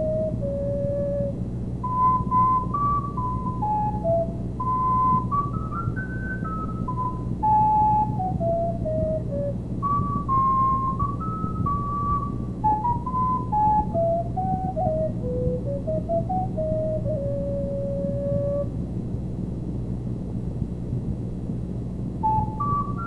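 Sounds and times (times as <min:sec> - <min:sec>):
recorder melody: 0:00.0 - 0:18.8, 0:22.2 - 0:23.0
steady low hum: 0:00.0 - 0:23.0.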